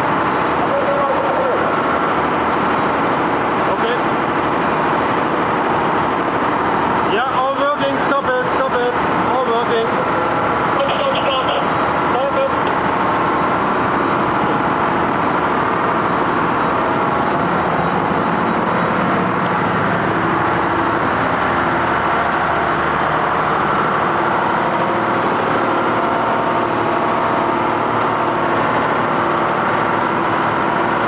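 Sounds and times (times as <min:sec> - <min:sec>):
heavy machinery droning: 0:00.0 - 0:31.0.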